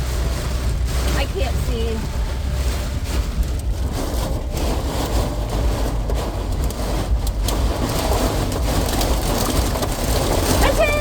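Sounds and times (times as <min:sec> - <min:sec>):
car low rumble: 0:00.0 - 0:11.0
heavy rain on car roof: 0:00.0 - 0:11.0.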